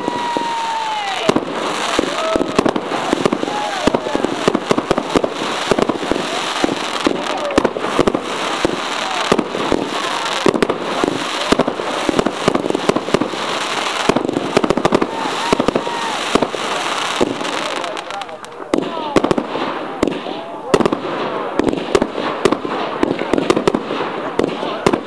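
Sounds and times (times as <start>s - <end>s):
fireworks rising hiss: 0.0s - 20.4s
fireworks bangs and crackles: 0.0s - 25.0s.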